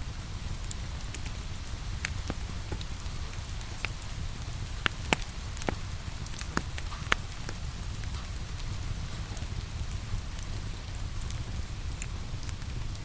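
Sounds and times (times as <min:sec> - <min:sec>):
rain: 0:00.0 - 0:13.0
wood fire crackling: 0:00.0 - 0:13.0.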